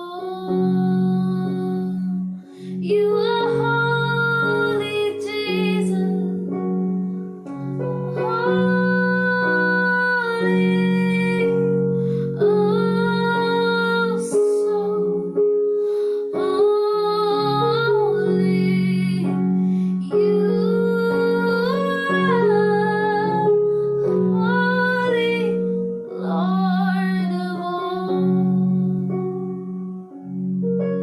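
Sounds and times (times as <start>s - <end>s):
sustained keyboard chords: 0.0s - 31.0s.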